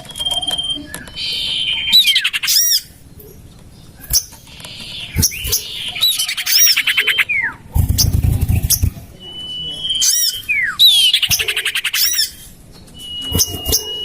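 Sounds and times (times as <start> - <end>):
bird chattering trills and whistles: 0.1 - 14.0.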